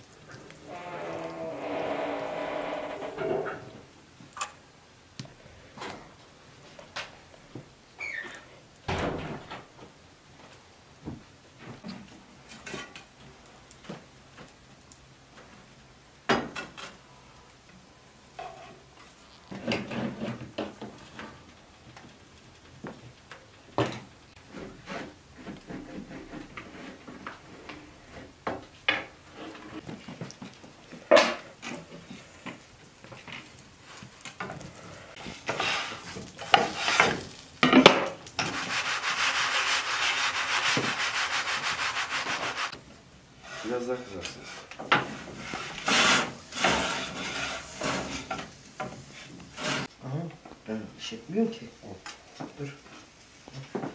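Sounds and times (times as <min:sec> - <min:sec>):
flatbread frying in a pan: 0:00.0 - 0:01.6, 0:03.8 - 0:50.0, 0:50.6 - 0:53.9.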